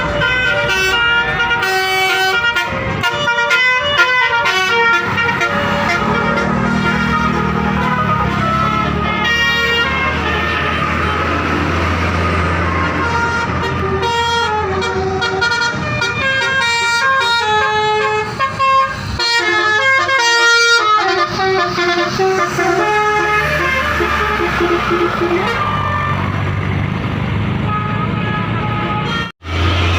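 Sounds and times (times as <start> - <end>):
musical air horn playing melody: 0.0 - 26.3, 27.7 - 29.4
bus engine rumble: 0.0 - 29.9.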